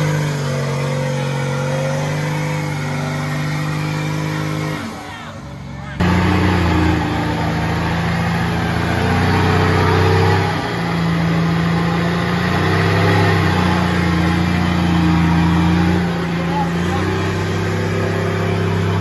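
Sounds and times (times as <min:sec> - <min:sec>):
truck engine revving under load: 0:00.0 - 0:19.0.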